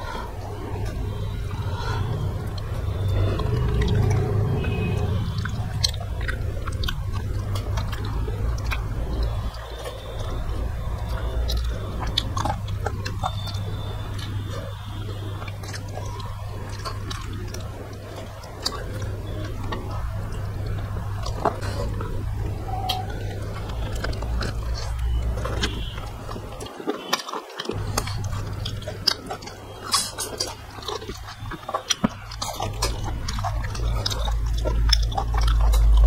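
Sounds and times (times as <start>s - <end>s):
steady low hum: 0.0s - 26.7s, 27.7s - 36.0s
mouth smacks and clicks: 0.0s - 36.0s
people chewing with wet mouth sounds: 0.0s - 36.0s.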